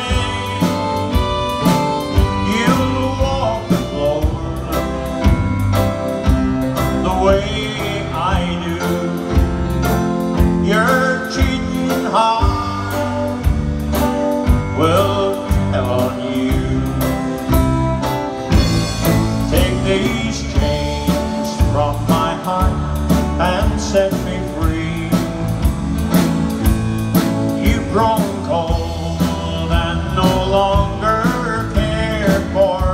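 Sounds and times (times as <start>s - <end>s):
man singing into a microphone: 0.0s - 5.5s, 6.8s - 9.8s, 10.4s - 13.5s, 14.5s - 17.5s, 18.7s - 25.7s, 27.5s - 32.9s
drum beat: 0.0s - 16.8s, 17.4s - 32.9s
electric guitar: 0.0s - 32.9s.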